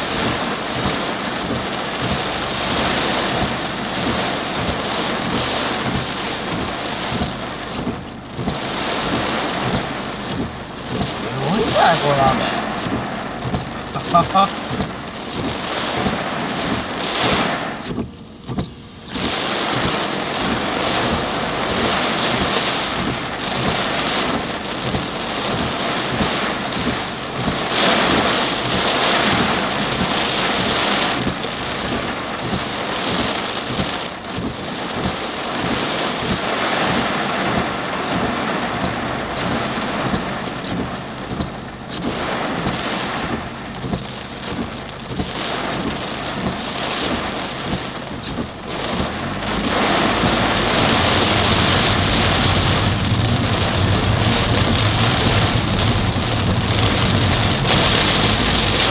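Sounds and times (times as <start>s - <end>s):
heavy rain pelting a car: 0.0s - 58.9s.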